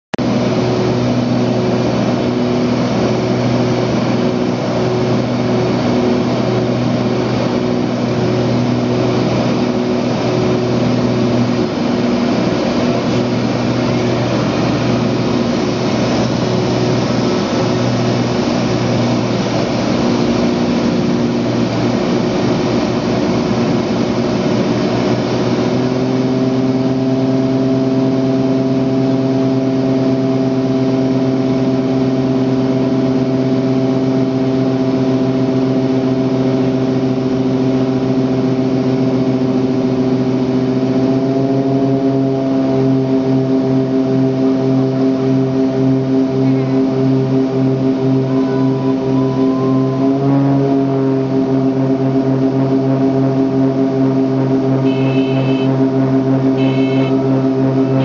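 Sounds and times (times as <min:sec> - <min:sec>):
propeller plane engine drone: 0:00.1 - 0:58.0.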